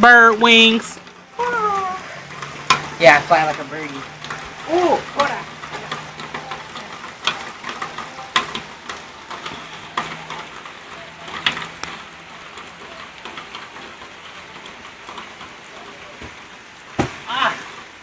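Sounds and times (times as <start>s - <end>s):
rain pattering: 0.0s - 18.0s
raindrops tapping close by: 0.0s - 18.0s.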